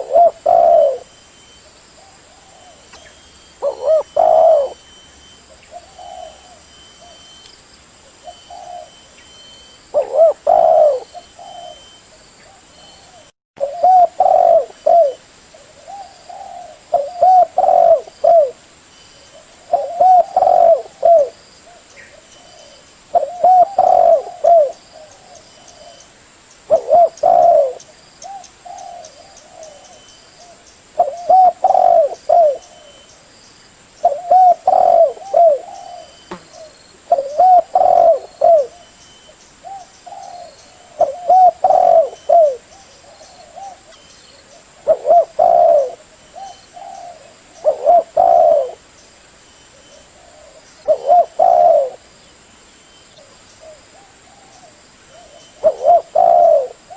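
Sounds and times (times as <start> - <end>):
dove cooing: 0.0 - 1.2, 2.0 - 7.3, 8.1 - 18.6, 19.2 - 26.0, 26.7 - 33.1, 34.0 - 39.0, 39.6 - 48.9, 49.7 - 52.1, 53.1 - 56.9.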